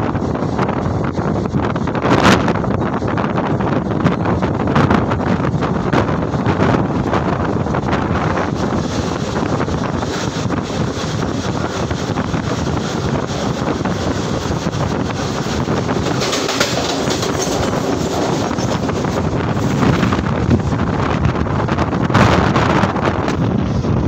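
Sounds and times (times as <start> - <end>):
passing train rushing by: 0.0 - 24.0
train wheels rumbling on rails: 0.0 - 24.0
wind buffeting microphone: 0.0 - 24.0.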